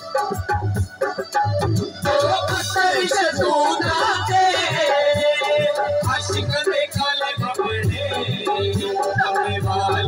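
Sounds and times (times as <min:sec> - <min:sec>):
keyboard melody: 0:00.0 - 0:10.0.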